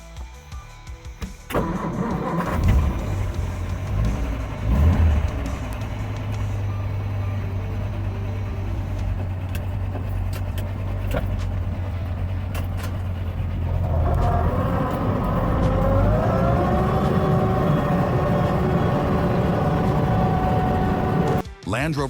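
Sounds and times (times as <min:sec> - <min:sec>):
vehicle engine humming: 0:01.5 - 0:21.4.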